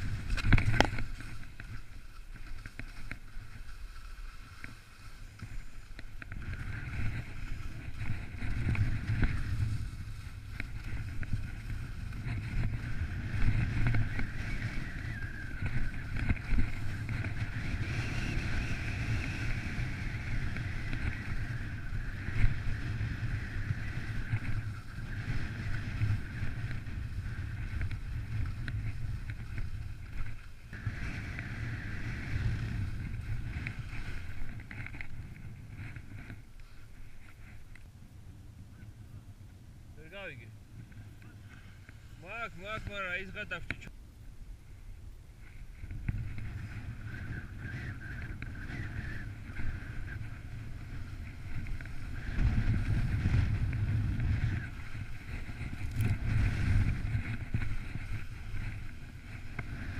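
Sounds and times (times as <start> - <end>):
wind buffeting microphone: 0.0 - 3.7, 5.2 - 59.9
skis sliding on snow: 0.0 - 37.7, 40.0 - 43.9, 45.3 - 59.9.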